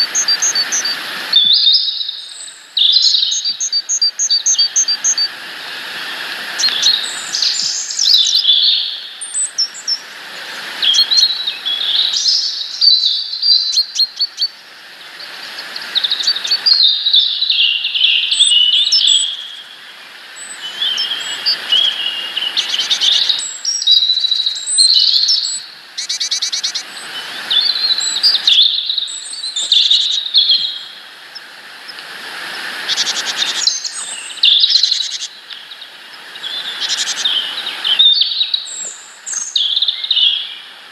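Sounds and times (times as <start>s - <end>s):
songbirds chirping: 0.0s - 32.2s, 32.9s - 40.8s
background hiss: 0.0s - 40.9s.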